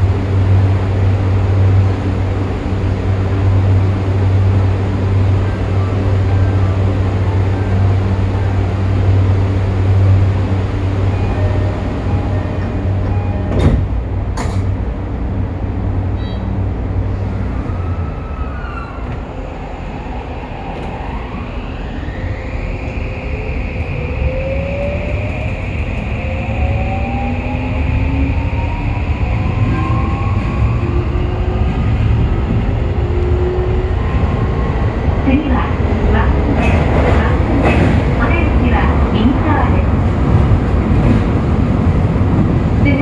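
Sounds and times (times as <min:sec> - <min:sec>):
rumble of train wheels: 0:00.0 - 0:43.0.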